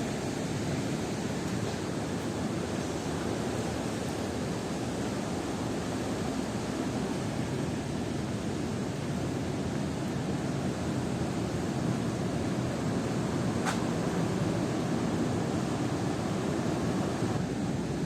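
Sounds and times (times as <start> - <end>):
waterfall roar: 0.0 - 18.0.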